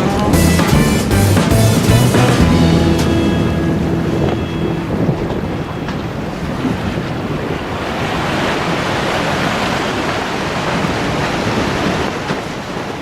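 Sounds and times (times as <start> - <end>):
wind buffeting microphone: 1.8 - 13.0
waves washing against shore: 2.6 - 13.0.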